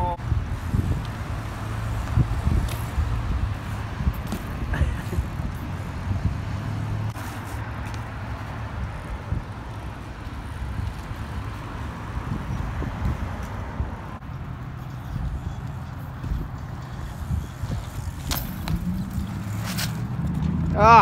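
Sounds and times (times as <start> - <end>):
passing cars traffic noise: 0.0 - 21.0.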